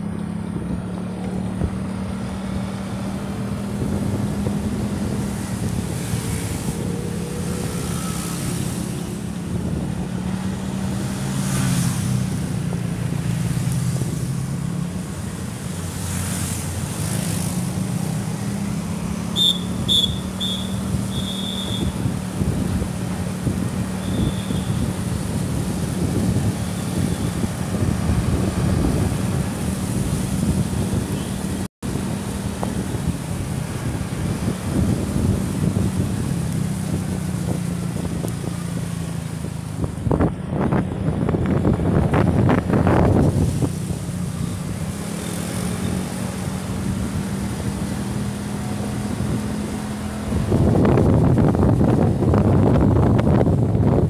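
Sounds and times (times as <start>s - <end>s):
vehicle engine humming: 0.0s - 54.0s
wind buffeting microphone: 0.5s - 15.9s, 20.8s - 45.1s, 45.8s - 54.0s.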